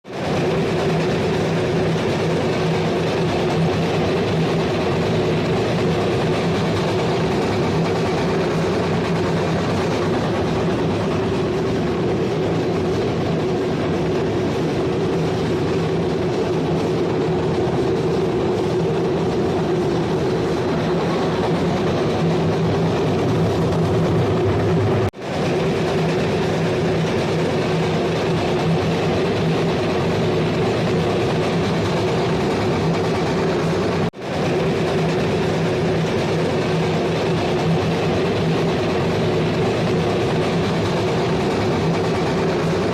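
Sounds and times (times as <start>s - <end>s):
mill machine droning: 0.1s - 42.9s.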